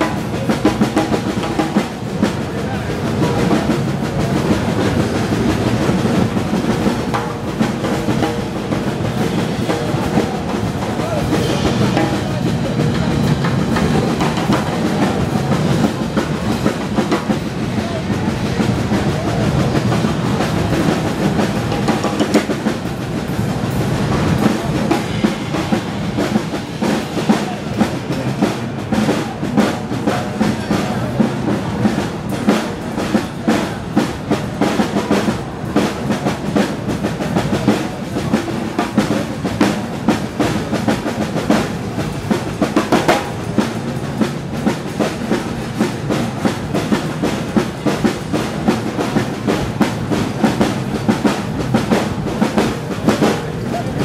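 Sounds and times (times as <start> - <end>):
snare drums played with sticks: 0.0 - 54.0.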